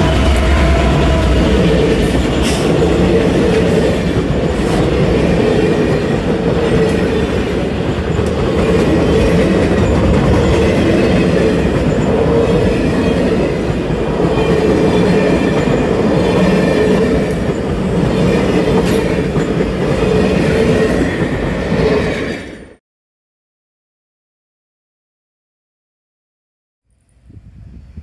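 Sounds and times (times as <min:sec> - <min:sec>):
train wheels rumbling on rails: 0:00.0 - 0:22.8.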